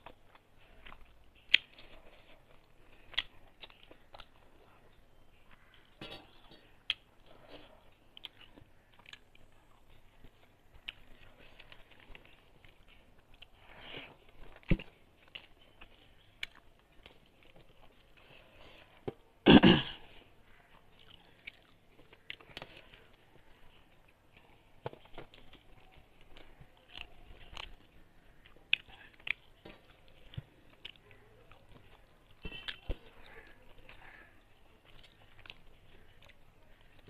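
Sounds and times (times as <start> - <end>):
person chewing and lip smacking: 0.0 - 19.3, 20.6 - 37.0.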